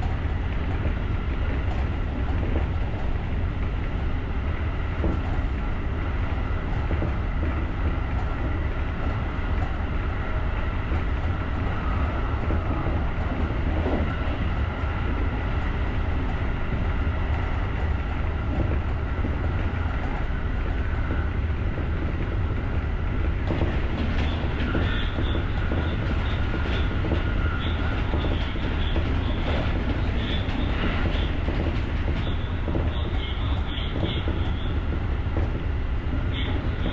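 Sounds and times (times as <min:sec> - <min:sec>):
electric train wheels rumbling: 0:00.0 - 0:36.9
faint train whine: 0:00.0 - 0:36.9.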